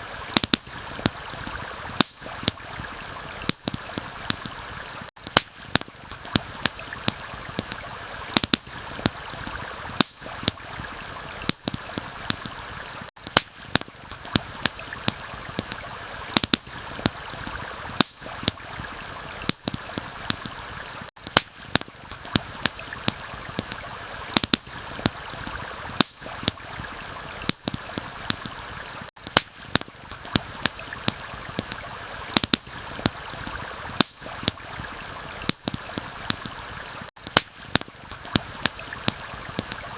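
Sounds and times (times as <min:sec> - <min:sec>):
campfire crackling and popping: 0:00.0 - 0:39.9
stream rushing: 0:00.0 - 0:39.9.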